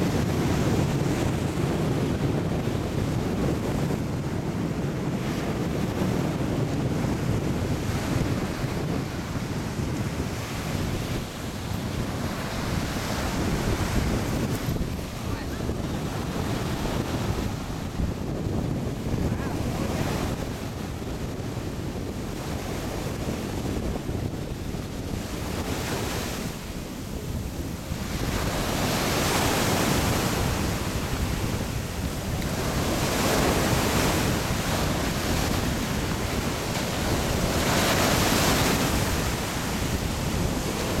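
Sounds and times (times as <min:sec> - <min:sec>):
ocean surf washing in: 0:00.0 - 0:41.0
wind buffeting microphone: 0:00.0 - 0:41.0.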